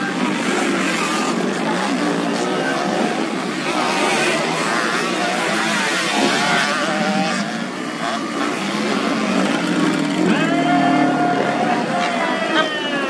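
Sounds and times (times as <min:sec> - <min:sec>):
motorcycles revving and accelerating: 0:00.0 - 0:13.0.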